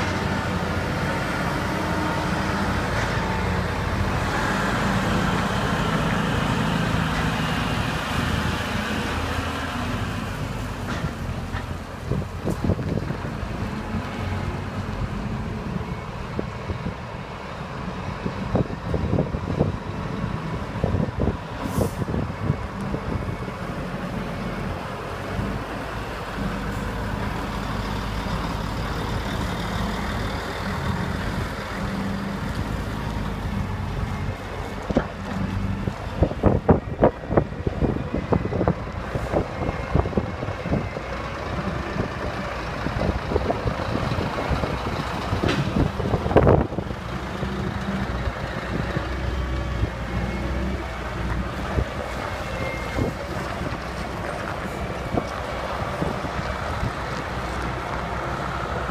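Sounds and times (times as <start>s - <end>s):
truck diesel engines: 0.0s - 58.9s.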